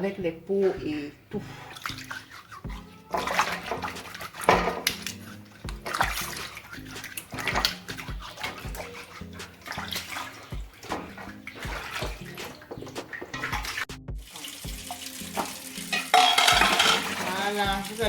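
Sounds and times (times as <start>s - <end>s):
water running and splashing: 1.4s - 18.0s.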